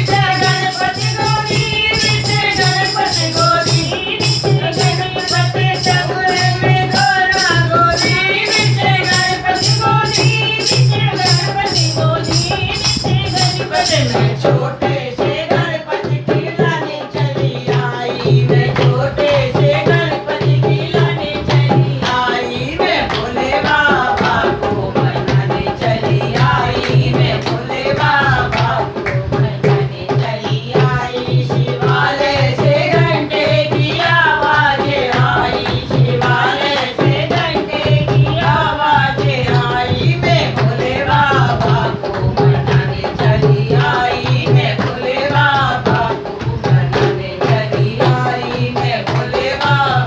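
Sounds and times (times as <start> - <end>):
rattling percussion: 0.0 - 15.3, 17.0 - 50.0
devotional song singing: 0.0 - 50.0
hand drum beat: 0.0 - 50.0.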